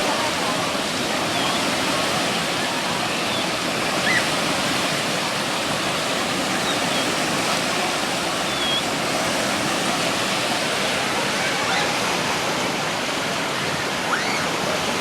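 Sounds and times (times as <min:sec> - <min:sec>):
rush of flowing water: 0:00.0 - 0:15.0.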